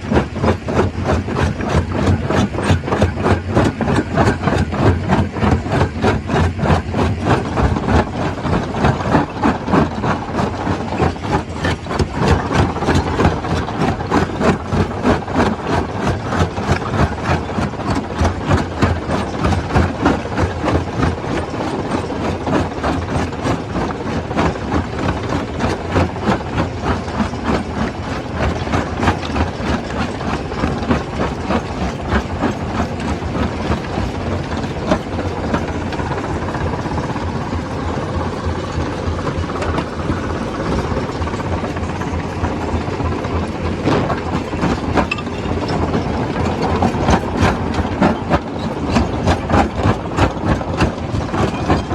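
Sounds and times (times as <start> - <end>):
stone crusher machine pulsing: 0.0 - 51.9.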